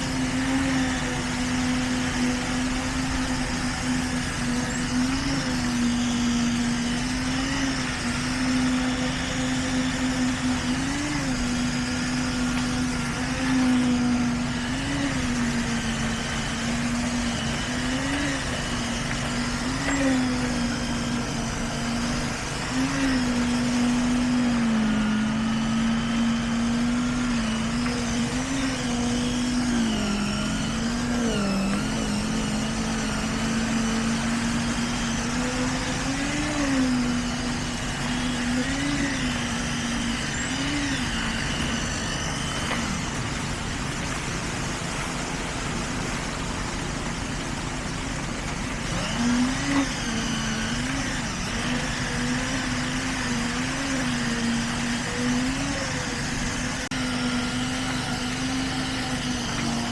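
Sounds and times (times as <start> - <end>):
construction machinery engine running: 0.0 - 59.9.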